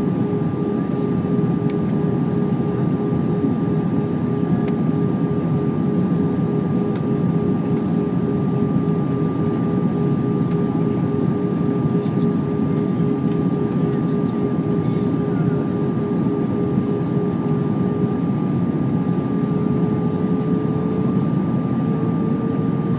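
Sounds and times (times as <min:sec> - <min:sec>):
jet engines droning: 0:00.0 - 0:22.9.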